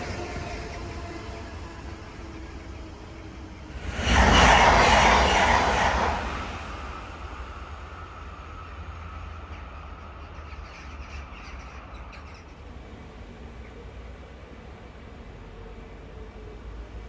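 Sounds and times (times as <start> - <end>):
electric train passing: 0.0 - 17.0
faint train whine: 0.0 - 17.0
low train rumble: 0.0 - 17.0.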